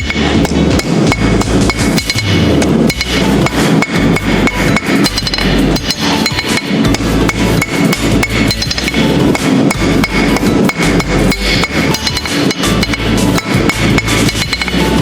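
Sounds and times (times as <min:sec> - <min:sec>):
hammer striking steel on anvil: 0:00.0 - 0:15.0.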